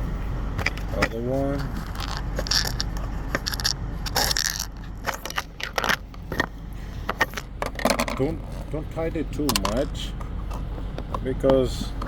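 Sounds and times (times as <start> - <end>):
small parts clinking and clicking: 0.6 - 8.7, 9.5 - 11.1.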